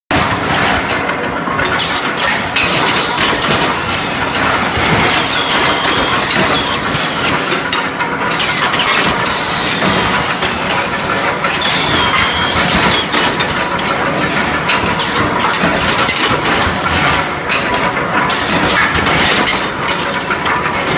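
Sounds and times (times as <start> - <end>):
heating furnace machine noise: 0.1 - 20.9
steel bars clanking: 1.6 - 20.9.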